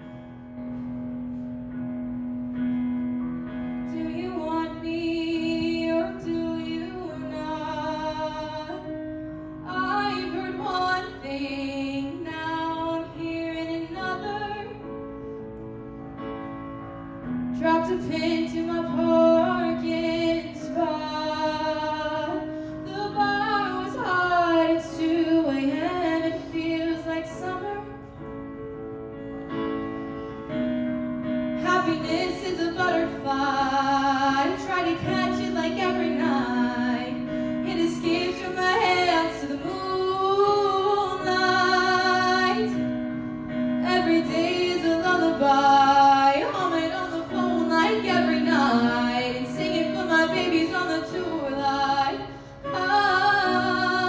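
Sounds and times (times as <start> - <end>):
digital piano chords: 0.0 - 54.0
woman singing: 3.9 - 14.9, 17.6 - 28.0, 31.5 - 54.0.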